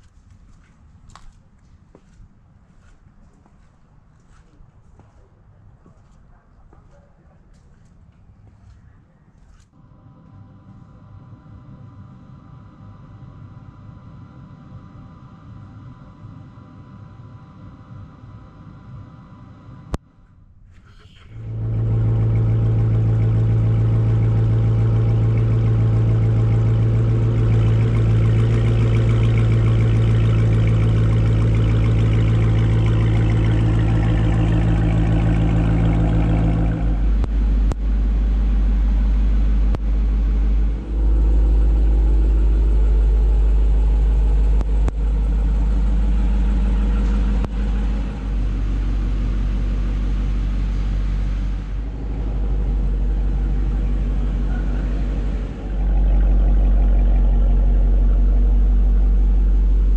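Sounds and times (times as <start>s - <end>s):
car engine idling: 9.8s - 59.9s.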